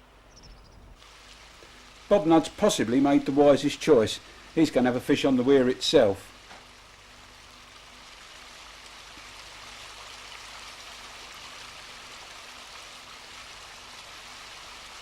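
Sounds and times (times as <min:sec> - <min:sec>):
river water flowing over weir: 0:01.0 - 0:15.0.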